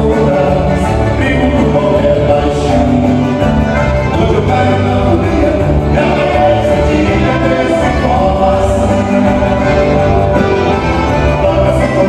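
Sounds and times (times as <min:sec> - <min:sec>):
accordion: 0:00.0 - 0:12.0
electric guitar: 0:00.0 - 0:12.0
keyboard: 0:00.0 - 0:12.0
man singing: 0:00.0 - 0:12.0.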